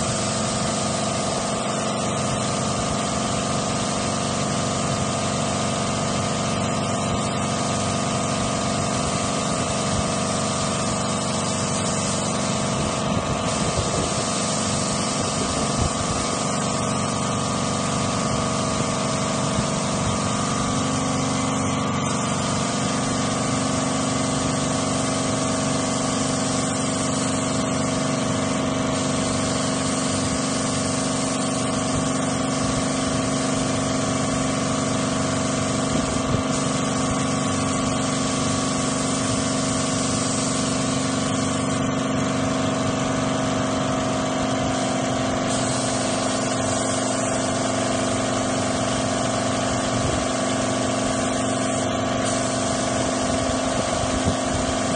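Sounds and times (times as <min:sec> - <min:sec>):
air compressor running: 0:00.0 - 0:54.9
spray gun air hiss: 0:00.0 - 0:54.9.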